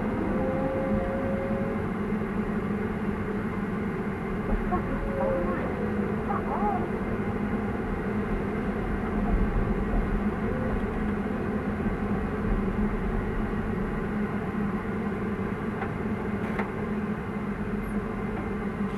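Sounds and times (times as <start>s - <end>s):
excavator diesel engine humming: 0.0s - 18.9s.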